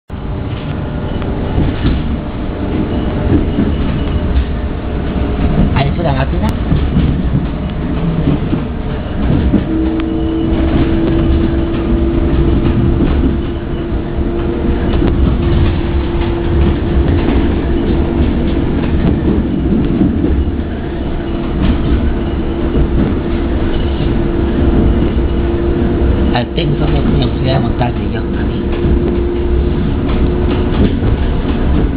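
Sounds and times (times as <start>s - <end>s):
train wheels rumbling on track: 0.1s - 31.9s.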